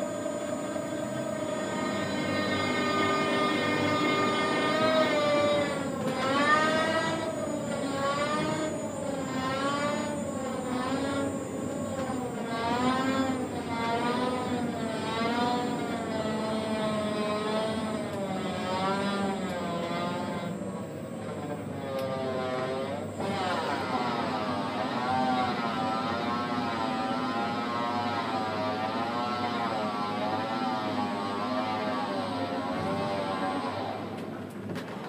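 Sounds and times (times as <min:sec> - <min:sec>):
crane motor whining: 0:00.0 - 0:35.0.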